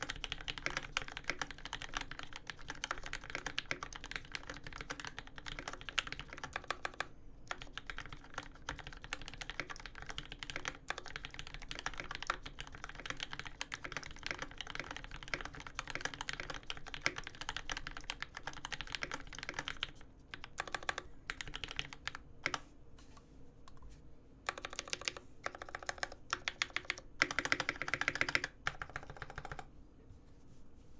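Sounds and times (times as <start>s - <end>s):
mechanical keyboard typing: 0.0s - 22.6s, 24.5s - 29.7s.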